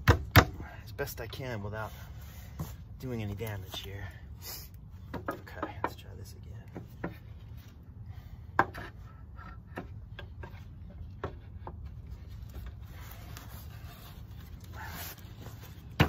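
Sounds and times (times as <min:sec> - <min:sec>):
wood scraping on wood: 0:01.2 - 0:16.0.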